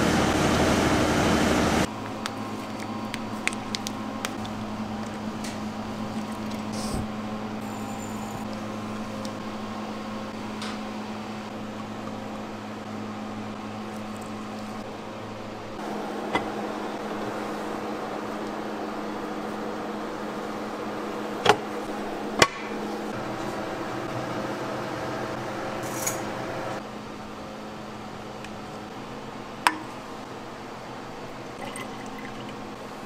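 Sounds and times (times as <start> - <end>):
factory machinery humming: 0.0 - 31.4.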